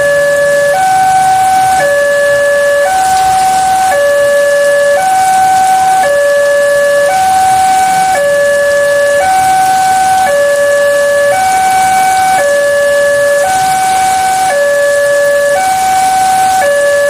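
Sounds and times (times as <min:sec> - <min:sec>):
level crossing two-tone alarm: 0:00.0 - 0:17.0.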